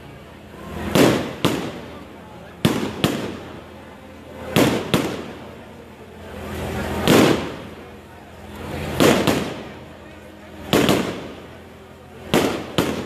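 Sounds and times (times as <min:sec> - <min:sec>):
fireworks bangs: 0:00.7 - 0:05.7, 0:06.5 - 0:08.1, 0:08.8 - 0:13.0.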